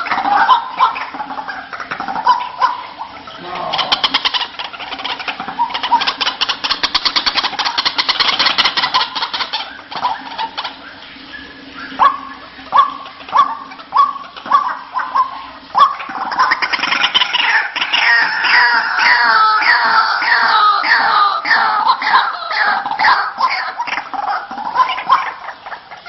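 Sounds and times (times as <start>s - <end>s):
bird calling: 0.0s - 26.0s.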